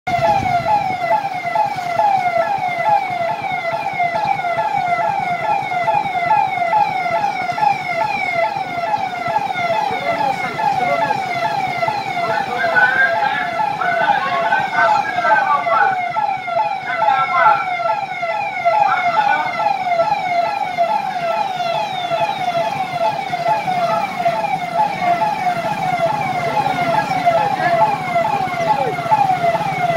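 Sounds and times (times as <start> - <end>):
police siren wailing: 0.1 - 29.9.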